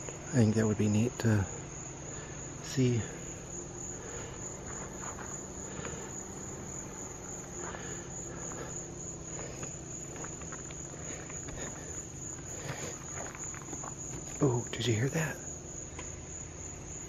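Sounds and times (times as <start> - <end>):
crickets chirping: 0.0 - 17.0
low steady hum: 0.0 - 17.0.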